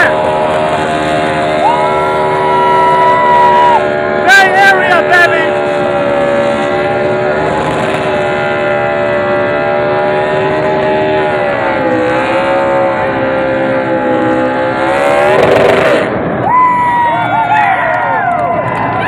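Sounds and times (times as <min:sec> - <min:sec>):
race car engine at high revs: 0:00.0 - 0:16.9.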